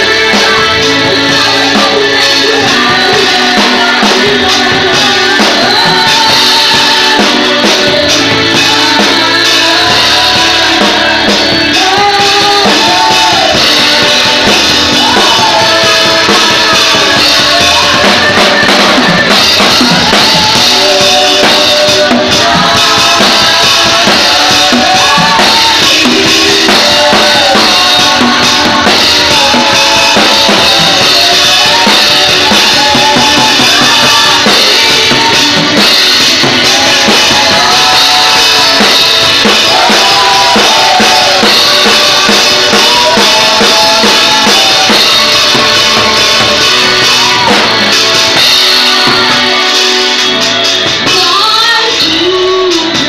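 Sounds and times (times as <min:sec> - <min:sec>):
woman singing into a microphone: 0:00.0 - 0:47.6, 0:50.8 - 0:53.0
drum kit: 0:00.0 - 0:53.0.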